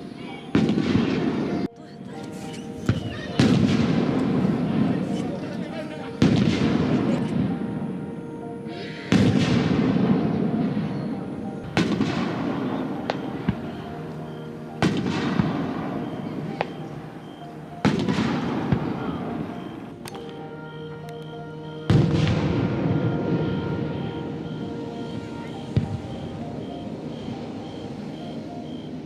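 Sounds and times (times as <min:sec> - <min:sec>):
small firework cracks: 0:00.3 - 0:07.6, 0:11.6 - 0:28.3
firework shells booming: 0:00.5 - 0:08.1, 0:09.1 - 0:29.0.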